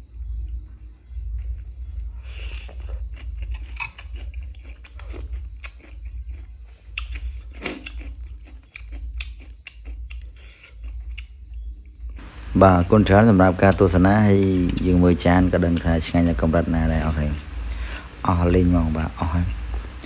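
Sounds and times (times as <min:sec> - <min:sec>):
chewing and crunching food: 0:00.0 - 0:20.0
steady low hum: 0:00.0 - 0:20.0.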